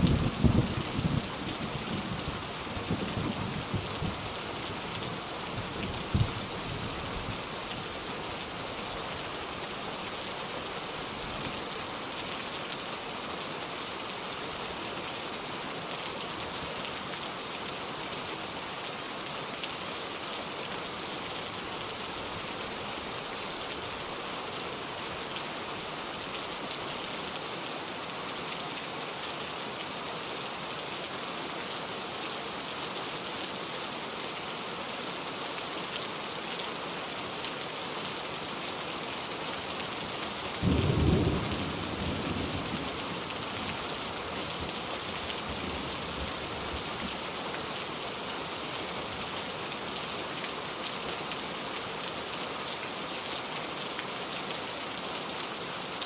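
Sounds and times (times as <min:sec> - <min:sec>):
dense rain falling: 0:00.0 - 0:56.0.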